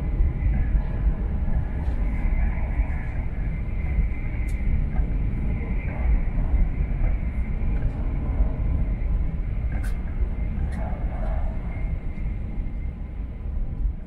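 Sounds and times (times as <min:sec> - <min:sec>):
train cabin low rumble: 0:00.0 - 0:14.0.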